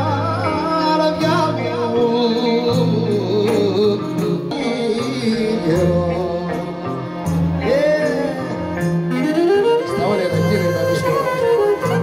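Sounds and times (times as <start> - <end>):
band playing: 0.0 - 12.0
man singing: 0.0 - 12.0.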